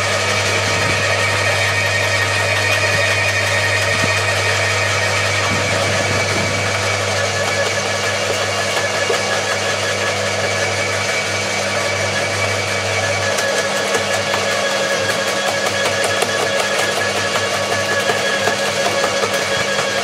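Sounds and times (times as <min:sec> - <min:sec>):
garden shredder motor hum: 0:00.0 - 0:20.0.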